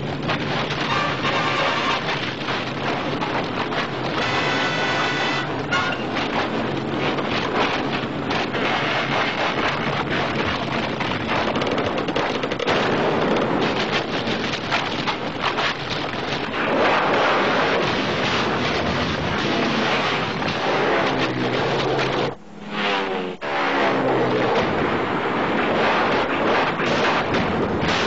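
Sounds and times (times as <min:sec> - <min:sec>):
rushing rumble with crackle: 0:00.0 - 0:28.0.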